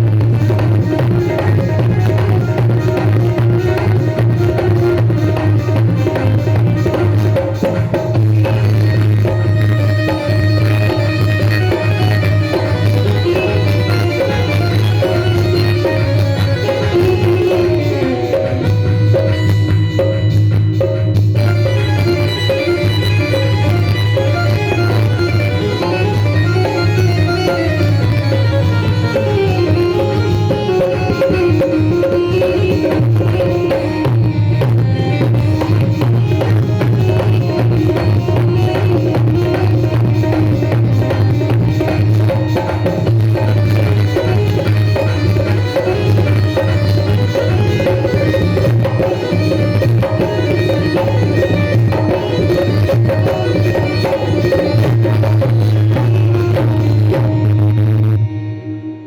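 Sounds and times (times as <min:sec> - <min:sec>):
dense percussion rhythm: 0:00.0 - 0:57.9
keyboard melody of quick notes: 0:01.2 - 0:59.0.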